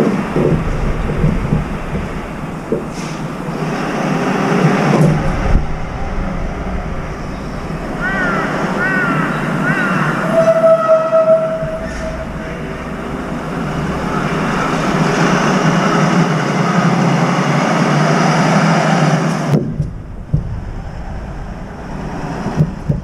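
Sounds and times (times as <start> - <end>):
road traffic rumble and hiss: 0.0 - 23.0.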